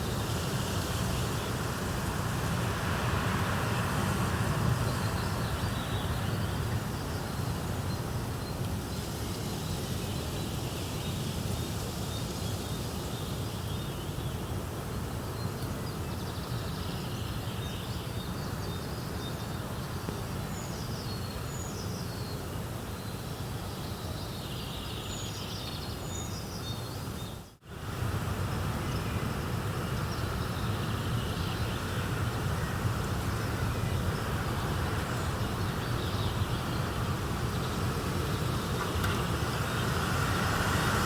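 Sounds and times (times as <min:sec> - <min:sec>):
rushing nature ambience: 0:00.0 - 0:41.0.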